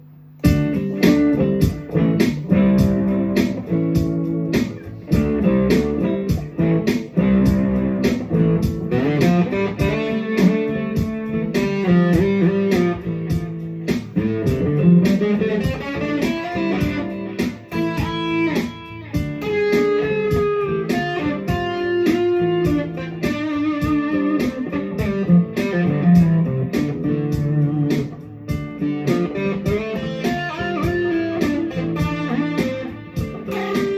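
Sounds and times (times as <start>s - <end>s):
blues electric guitar: 0.0s - 33.9s
steady beat: 0.0s - 33.9s.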